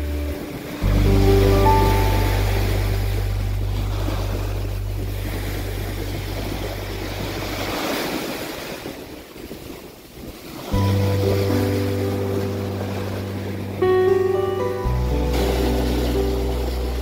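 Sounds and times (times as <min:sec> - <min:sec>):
low steady hum: 0:00.0 - 0:07.7, 0:10.8 - 0:17.0
sea waves washing in: 0:00.0 - 0:17.0.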